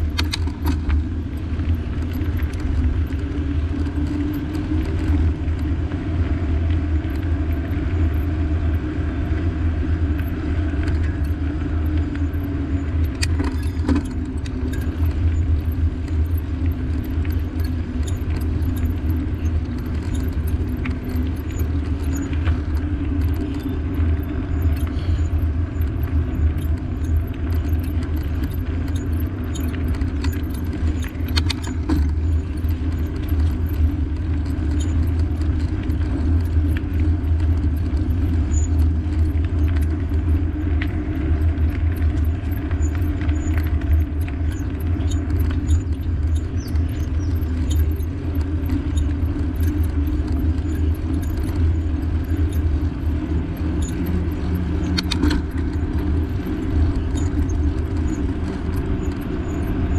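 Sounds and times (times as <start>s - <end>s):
road rumble while riding: 0.0s - 59.9s.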